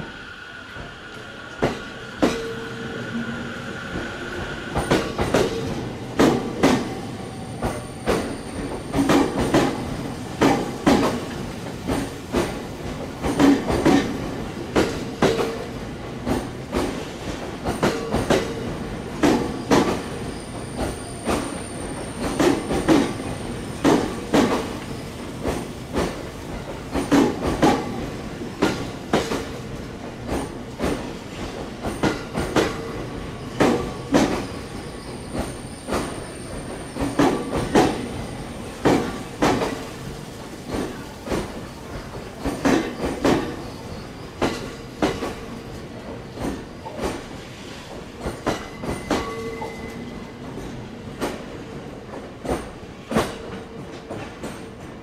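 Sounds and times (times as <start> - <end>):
train wheels clacking: 3.9 - 55.0.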